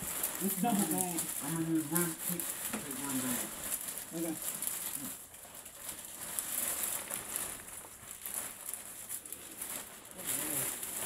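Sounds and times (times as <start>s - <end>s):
rustling of plastic coveralls: 0.0s - 11.0s.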